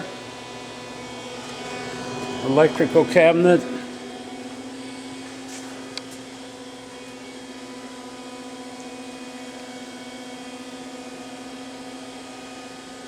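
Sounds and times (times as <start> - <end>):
machine electrical hum: 0.0 - 13.0.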